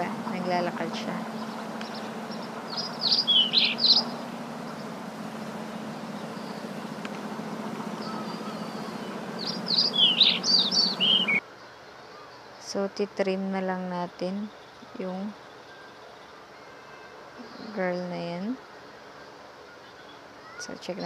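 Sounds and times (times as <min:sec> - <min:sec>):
birds chirping: 0:00.0 - 0:12.8, 0:14.3 - 0:21.0
low hum and hiss: 0:00.0 - 0:21.0.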